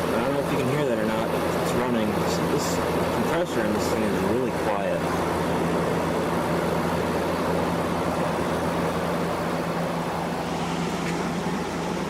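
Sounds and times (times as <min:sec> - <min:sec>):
air conditioner fan noise: 0:00.0 - 0:12.0
low even hum: 0:00.0 - 0:12.0.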